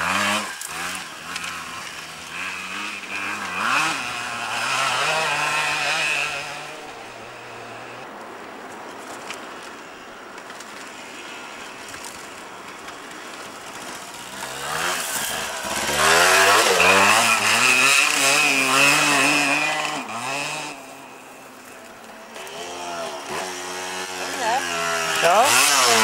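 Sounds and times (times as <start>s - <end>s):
dirt bike revving: 0.0s - 8.1s, 12.7s - 26.0s.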